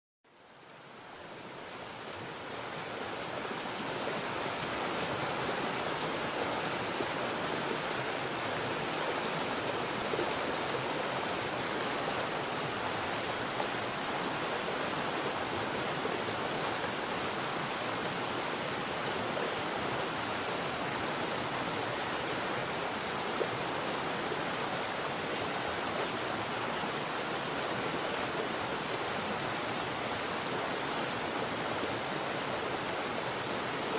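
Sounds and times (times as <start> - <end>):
stream and waterfall rushing: 0.3 - 33.9.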